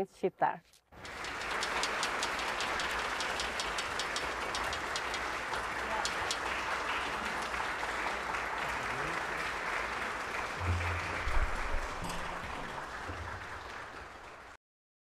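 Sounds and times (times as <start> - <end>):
audience applauding: 1.0 - 14.6.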